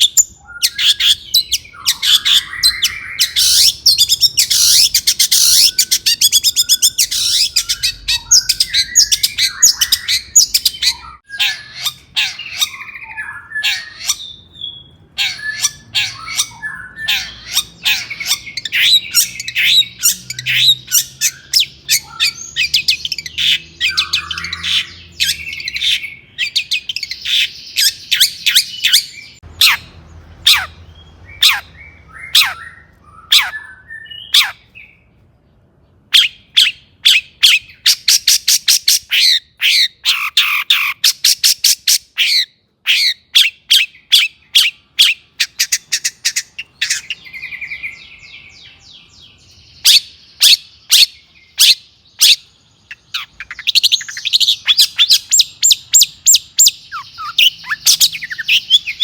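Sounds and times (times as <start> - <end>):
bird singing scratchy song: 0.0 - 59.0.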